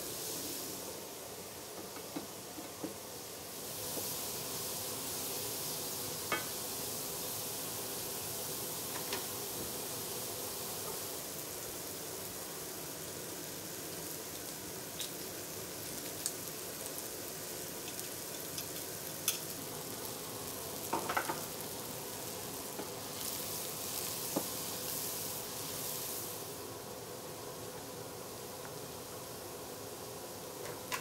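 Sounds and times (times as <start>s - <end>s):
leeks sizzling in a frying pan: 0.0s - 31.0s.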